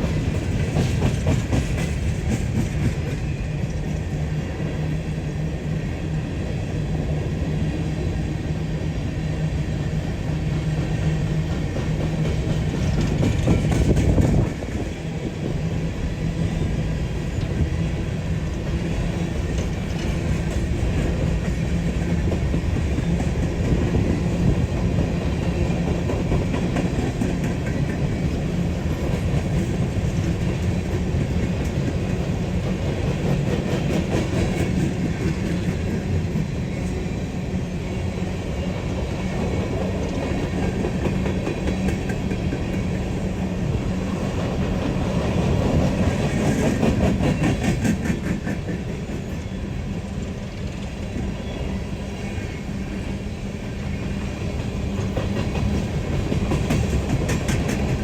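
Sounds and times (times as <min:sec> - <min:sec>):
freight train wheels rumbling: 0:00.0 - 0:58.0
train clatter: 0:00.0 - 0:58.0.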